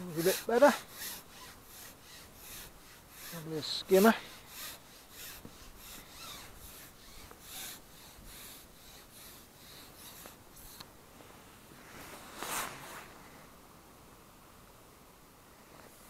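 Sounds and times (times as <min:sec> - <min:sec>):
fishing pole rubbing against jacket: 0:00.0 - 0:13.3
landing net rustle: 0:00.0 - 0:13.3.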